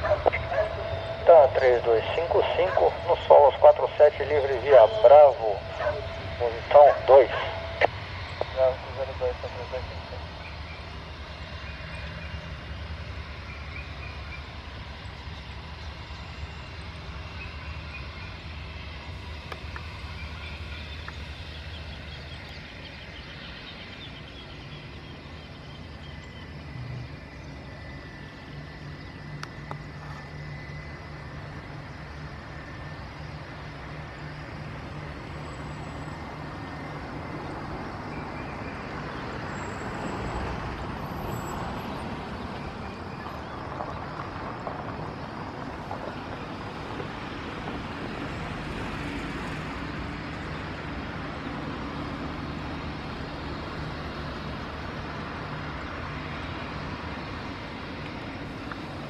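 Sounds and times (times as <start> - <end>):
jet engines humming: 0.0 - 59.0.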